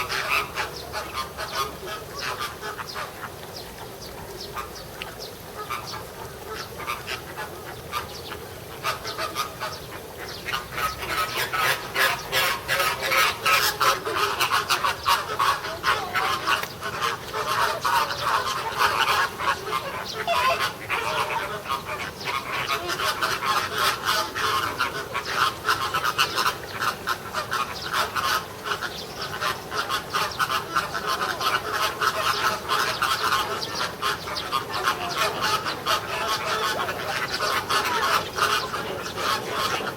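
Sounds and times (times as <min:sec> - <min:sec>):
flamingos honking: 0:00.0 - 0:39.9.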